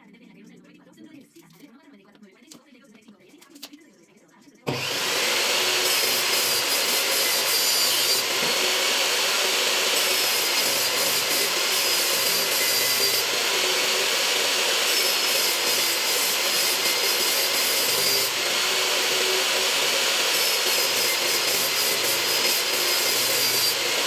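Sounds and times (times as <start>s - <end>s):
power saw cutting wood: 4.7s - 24.0s.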